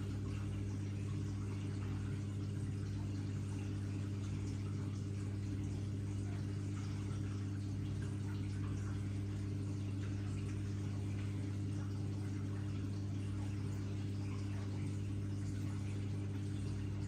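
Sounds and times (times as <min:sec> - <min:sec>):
low electrical hum: 0:00.0 - 0:17.0
washing machine running: 0:00.0 - 0:17.0
water trickling and sloshing: 0:00.0 - 0:17.0.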